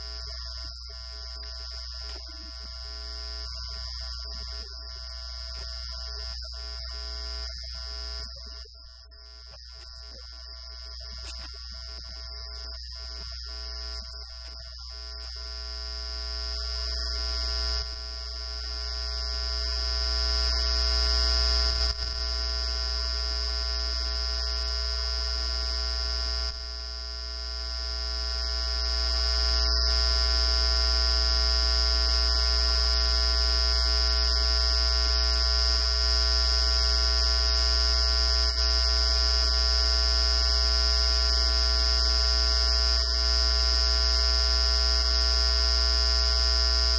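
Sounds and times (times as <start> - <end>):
electrical buzz with hum and whine: 0.0 - 46.9.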